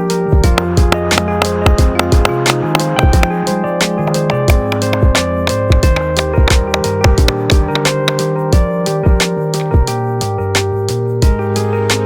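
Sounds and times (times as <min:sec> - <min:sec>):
background music with drum beat: 0:00.1 - 0:10.0, 0:10.6 - 0:12.0.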